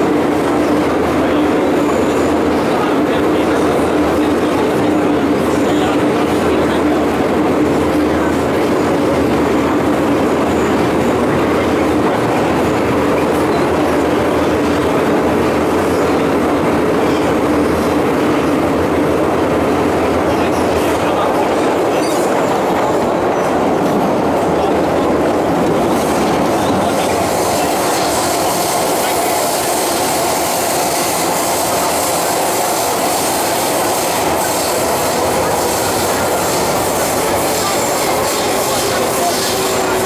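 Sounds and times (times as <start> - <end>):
steady train hum: 0.0 - 40.0
train wheels rumbling on rails: 0.0 - 40.0
wheels clickety-clack: 0.0 - 40.0.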